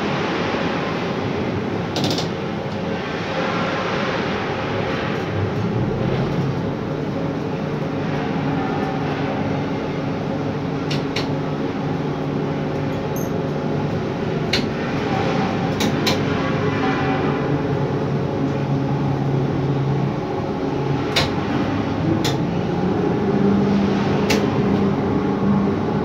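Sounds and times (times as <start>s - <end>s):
rail wheels rumbling: 0.0s - 26.0s.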